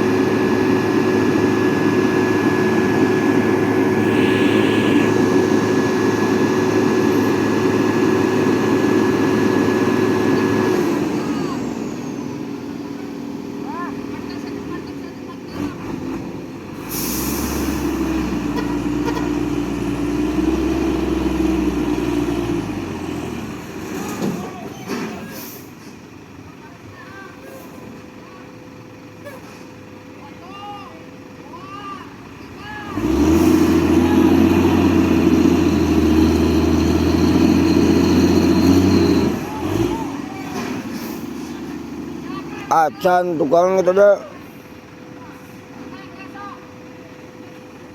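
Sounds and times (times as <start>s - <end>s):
heavy vehicle engine rumbling: 0.0s - 47.9s.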